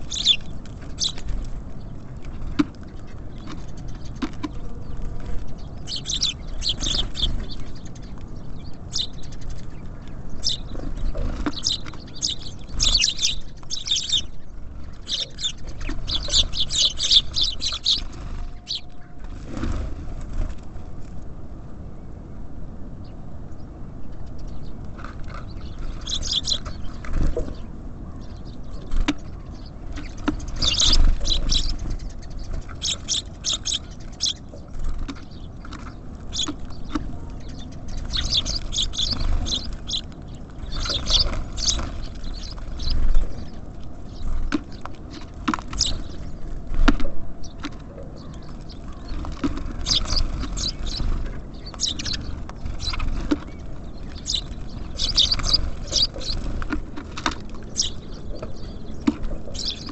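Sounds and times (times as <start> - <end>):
small songbirds chirping: 0.0 - 20.6, 23.0 - 59.9
steady low rumble: 0.0 - 59.9.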